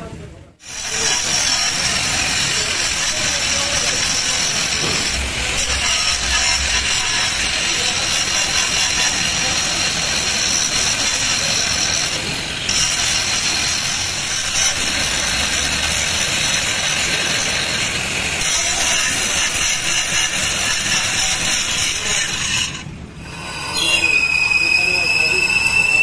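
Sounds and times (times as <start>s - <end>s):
angle grinder cutting steel: 0.6s - 26.0s.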